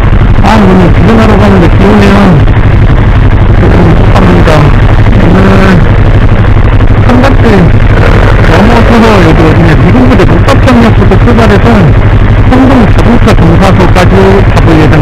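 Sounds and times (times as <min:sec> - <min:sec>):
motorcycle engine idling: 0:00.0 - 0:15.0
person speaking: 0:00.4 - 0:02.6, 0:03.5 - 0:06.0, 0:07.0 - 0:15.0.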